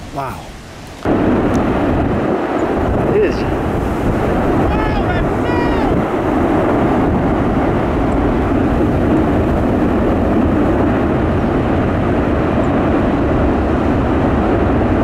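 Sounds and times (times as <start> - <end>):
roar of tornado winds: 0.0 - 15.0
wind buffeting microphone: 0.0 - 15.0.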